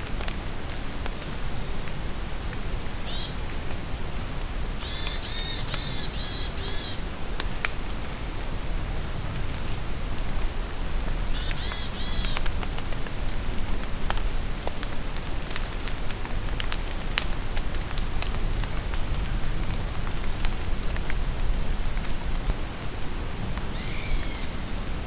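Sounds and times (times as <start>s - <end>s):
rain falling in forest: 0.0s - 25.0s
raindrops ticking close by: 0.0s - 25.0s.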